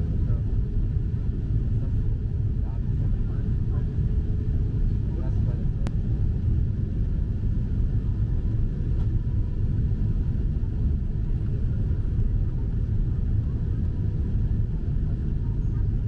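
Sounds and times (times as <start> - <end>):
airplane cabin engine rumble: 0.0 - 16.0
faint steady hum: 0.0 - 16.0.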